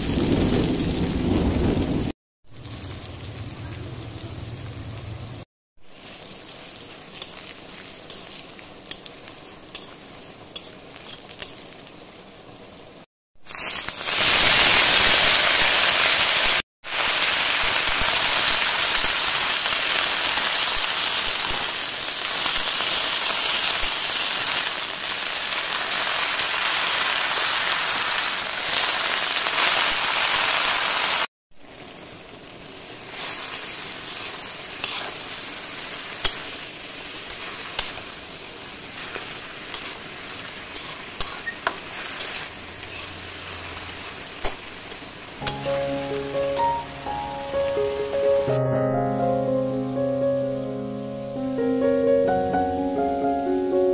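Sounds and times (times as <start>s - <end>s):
chillies and garlic frying in oil: 0.0s - 48.1s
greens sizzling in a pan: 2.5s - 48.3s.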